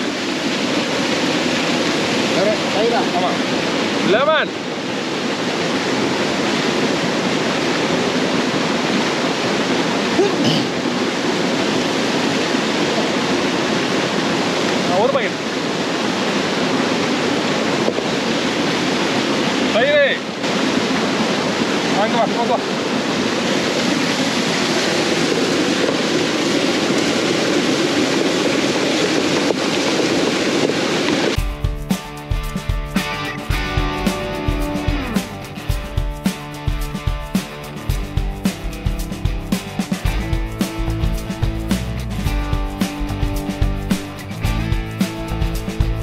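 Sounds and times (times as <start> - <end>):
waterfall rushing over rocks: 0.0 - 46.0.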